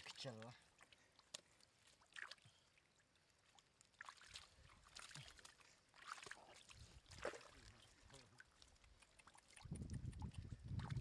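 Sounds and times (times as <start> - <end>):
shallow water sloshing: 0.0 - 11.0
water splashes: 0.0 - 11.0.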